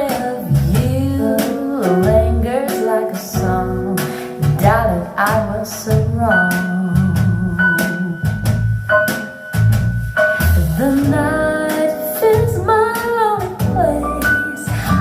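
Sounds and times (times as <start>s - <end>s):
drums and guitar: 0.0s - 15.0s.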